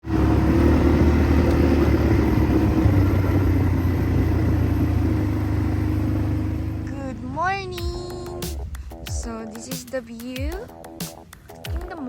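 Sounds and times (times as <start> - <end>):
motor vehicle rumbling: 0.0 - 11.8.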